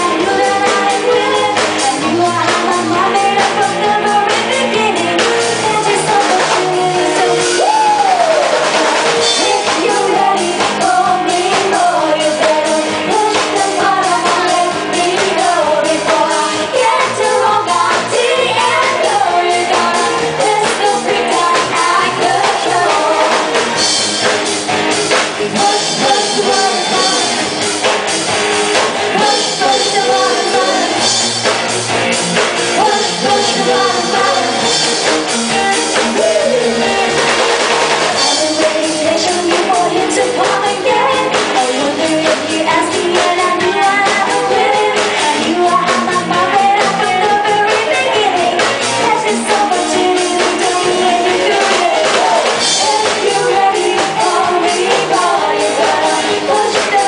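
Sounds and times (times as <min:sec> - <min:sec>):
lead singer singing: 0:00.0 - 0:24.4, 0:25.1 - 0:28.1, 0:28.7 - 0:31.7, 0:32.3 - 0:57.0
live band playing pop song: 0:00.0 - 0:57.0.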